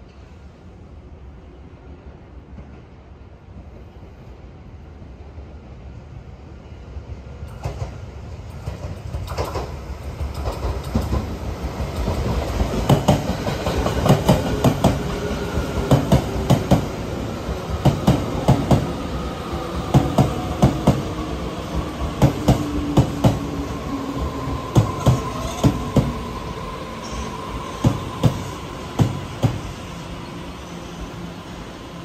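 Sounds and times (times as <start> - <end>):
train rumble: 5.0 - 32.0.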